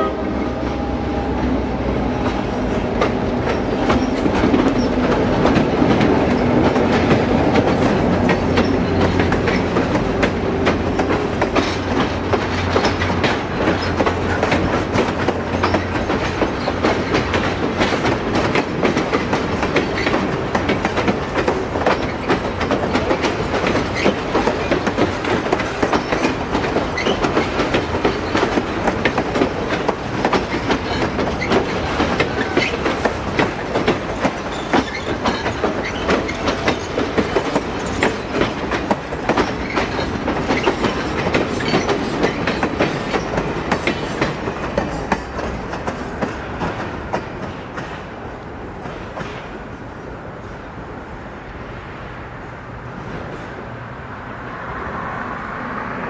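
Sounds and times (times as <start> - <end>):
train wheels clicking over rail joints: 0.6 - 50.1.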